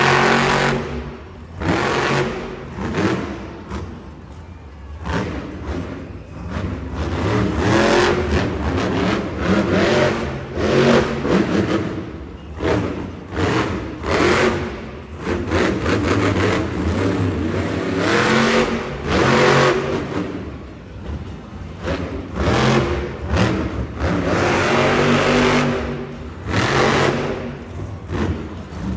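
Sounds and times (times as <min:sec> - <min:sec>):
monster truck engine revving: 0:00.0 - 0:28.9.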